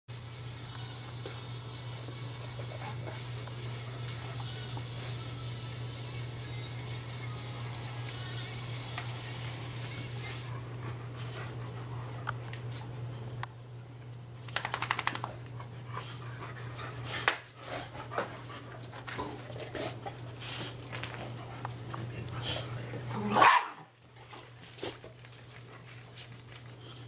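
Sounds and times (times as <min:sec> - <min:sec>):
dogs scuffling and panting: 0:01.2 - 0:06.6, 0:07.2 - 0:27.0.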